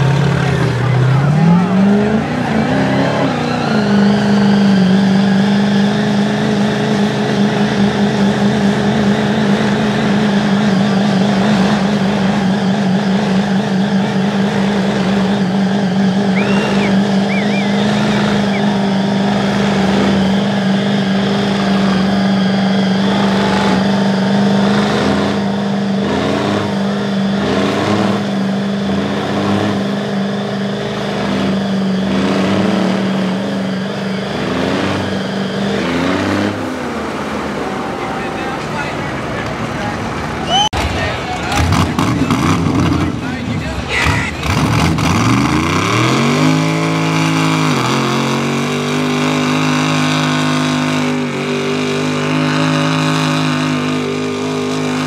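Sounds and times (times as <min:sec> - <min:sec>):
engine revving: 0:00.0 - 0:55.0
truck engines at full throttle: 0:00.0 - 0:55.0.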